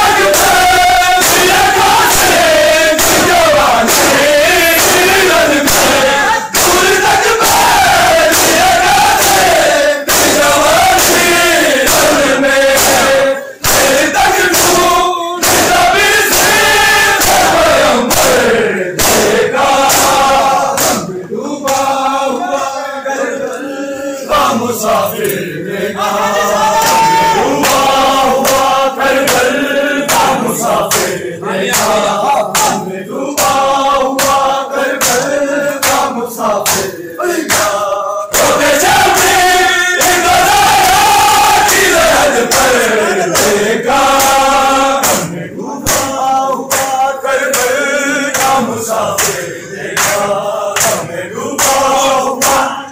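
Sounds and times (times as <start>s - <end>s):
men singing a lament: 0.0s - 52.9s
rhythmic chest striking: 0.0s - 52.9s.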